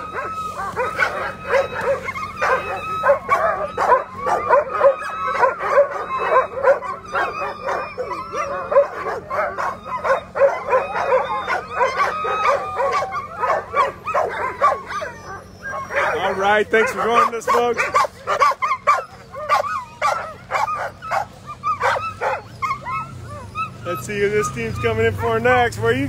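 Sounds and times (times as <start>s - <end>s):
sled dogs barking and howling: 0.0s - 26.0s.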